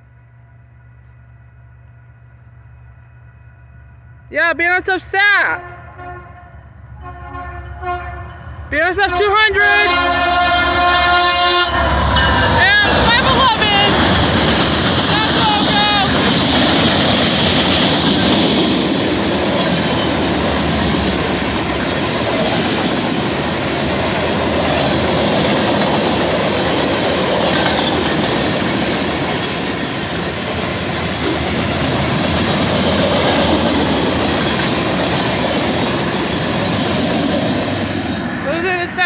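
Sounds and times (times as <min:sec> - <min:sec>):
freight train cars rolling past: 0:00.0 - 0:39.0
steel wheels on rail: 0:06.6 - 0:39.0.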